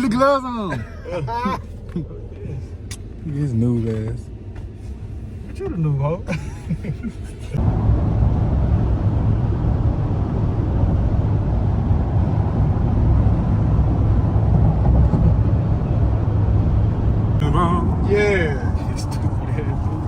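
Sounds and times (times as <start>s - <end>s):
vehicle rumbling on road: 0.0s - 20.0s.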